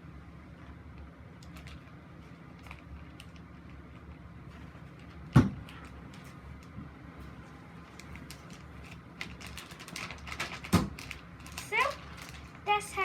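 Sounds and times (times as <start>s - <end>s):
plastic bag crinkling: 1.4s - 6.7s, 7.8s - 13.0s.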